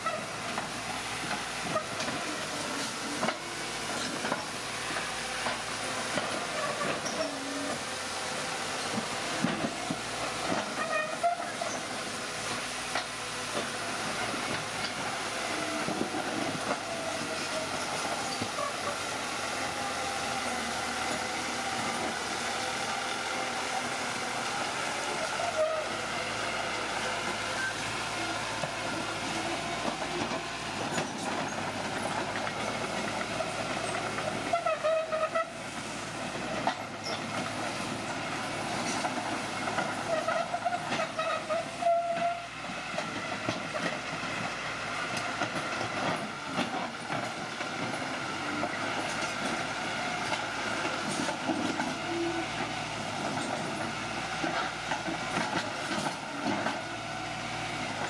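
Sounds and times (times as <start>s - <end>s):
bulldozer engine running: 0.0s - 58.0s
steel tracks squealing: 0.0s - 58.0s.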